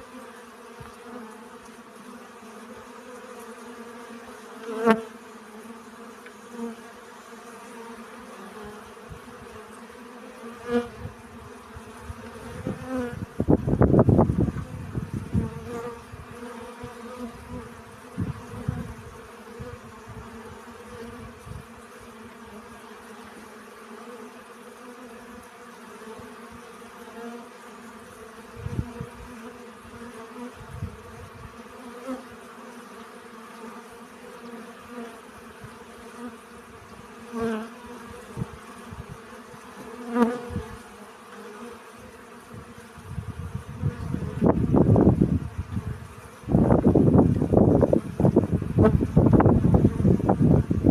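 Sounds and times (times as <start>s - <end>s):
bees buzzing: 0.0s - 50.9s.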